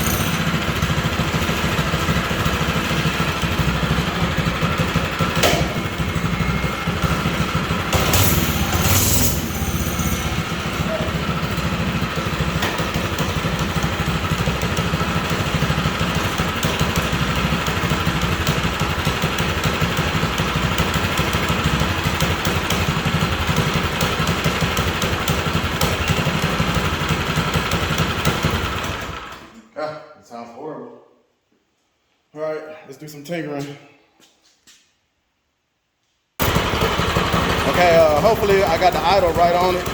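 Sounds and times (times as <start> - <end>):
small engine running rough: 0.0 - 29.6, 36.4 - 39.9.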